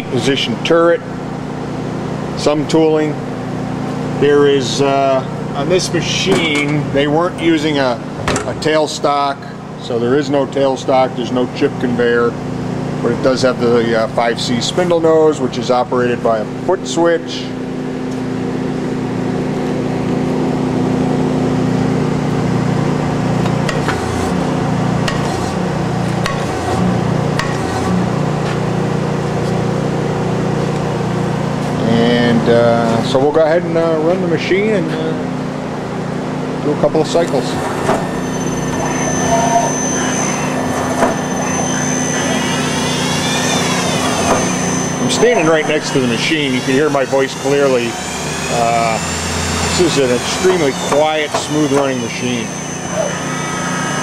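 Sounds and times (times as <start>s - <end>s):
lathe mechanical hum: 0.0s - 54.0s
machine whine rising and falling: 8.6s - 54.0s.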